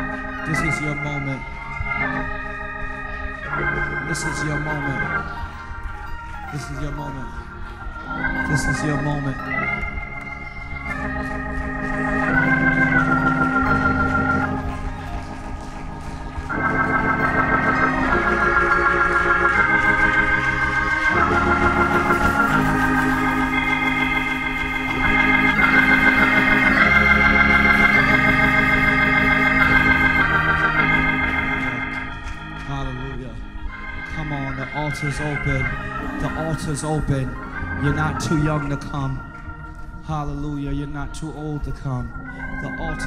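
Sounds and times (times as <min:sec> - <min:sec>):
church organ playing chords: 0:00.0 - 0:43.0.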